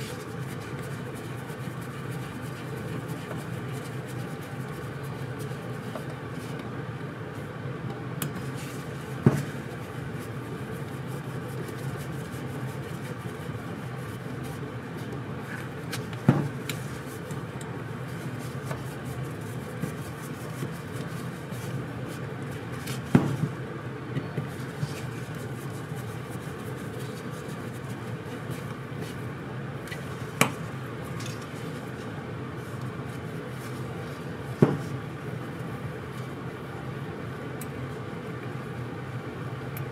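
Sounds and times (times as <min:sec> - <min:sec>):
steady hum: 0:00.0 - 0:39.9.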